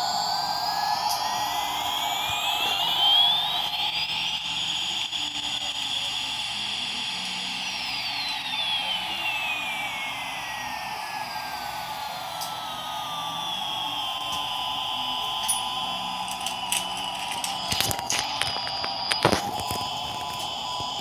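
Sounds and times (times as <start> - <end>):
jet engine whine: 0.0 - 21.0.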